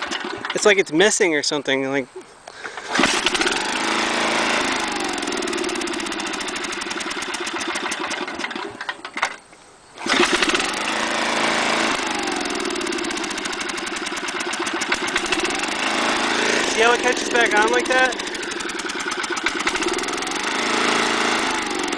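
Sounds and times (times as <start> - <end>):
lawn mower engine stuttering: 0.0 - 0.9, 2.7 - 9.4, 10.0 - 21.9.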